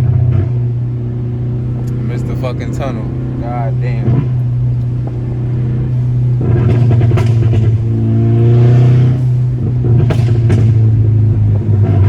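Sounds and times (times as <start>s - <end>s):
car engine accelerating: 0.0s - 12.0s
exhaust pops: 0.0s - 12.0s.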